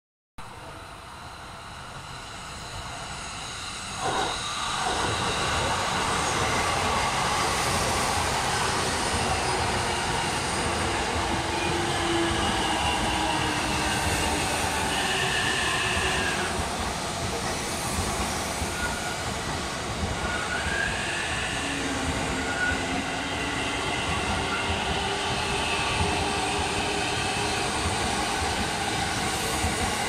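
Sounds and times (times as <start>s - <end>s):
electric train passing: 0.5s - 30.0s
wheels rushing on rail: 0.5s - 30.0s.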